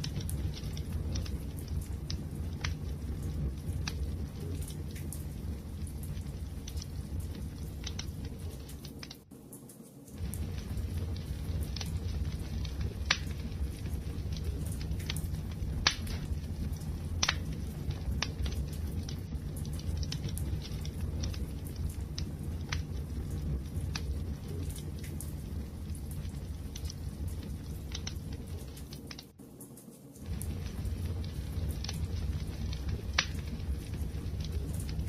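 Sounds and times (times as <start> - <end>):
wood fire roaring: 0.0 - 9.3, 10.1 - 29.4, 30.2 - 35.0
fire crackles and pops: 0.0 - 35.0.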